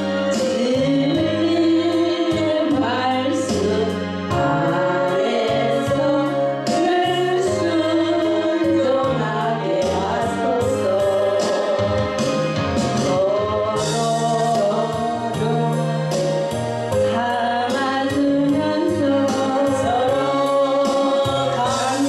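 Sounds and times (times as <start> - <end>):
choir singing gospel song: 0.0 - 22.0
instrumental accompaniment with bass: 0.0 - 22.0.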